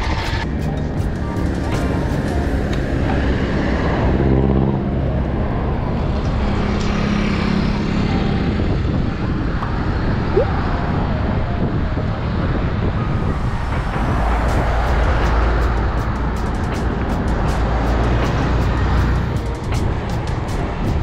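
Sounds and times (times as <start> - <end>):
engine hum: 0.0 - 21.0
road traffic passing: 0.0 - 21.0
wind on microphone: 3.4 - 21.0.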